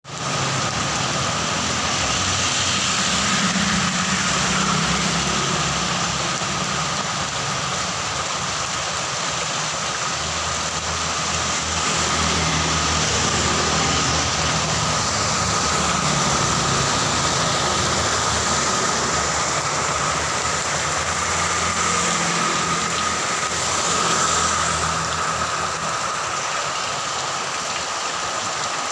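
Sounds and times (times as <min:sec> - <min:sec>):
heavy rain: 0:00.0 - 0:28.9.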